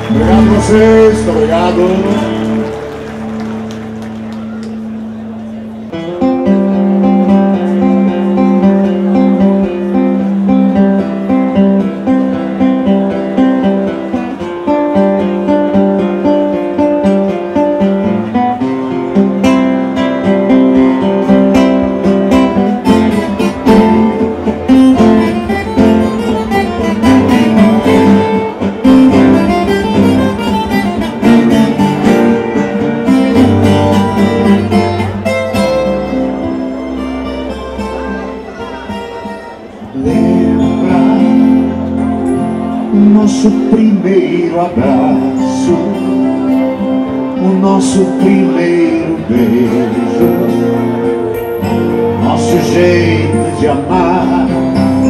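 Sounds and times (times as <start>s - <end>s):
low bass line: 0.0s - 13.0s, 18.2s - 55.0s
acoustic guitars plucked: 0.0s - 55.0s
keyboard: 0.0s - 55.0s.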